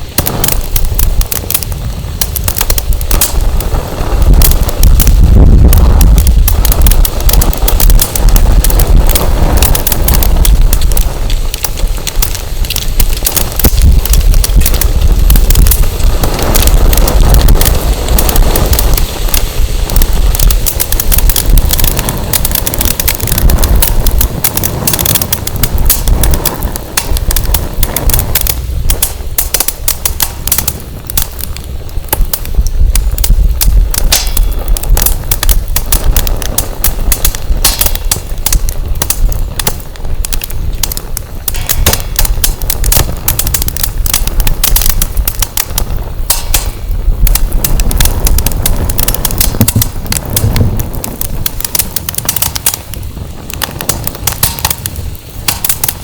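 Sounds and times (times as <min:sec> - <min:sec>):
campfire crackling: 0:00.0 - 0:56.0
wind buffeting microphone: 0:00.0 - 0:56.0.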